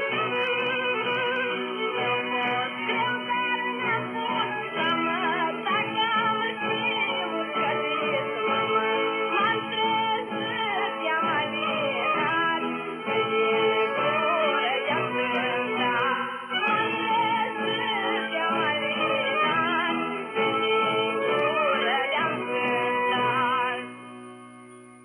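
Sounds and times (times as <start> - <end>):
folk song over radio speaker: 0.0 - 25.0.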